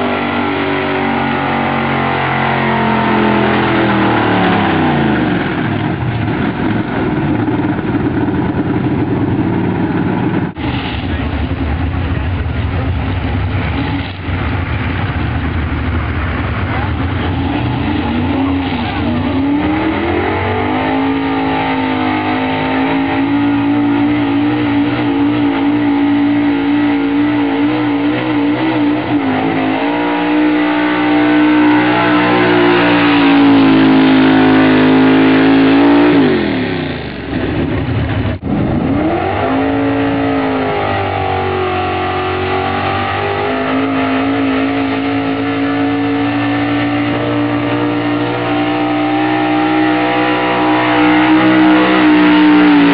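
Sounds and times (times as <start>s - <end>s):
truck engine revving hard: 0.0s - 52.9s.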